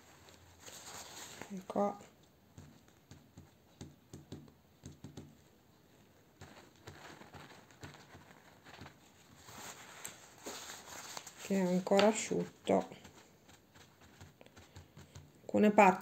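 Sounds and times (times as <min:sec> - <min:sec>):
paper towel dabbing and rustling: 0:00.0 - 0:16.0.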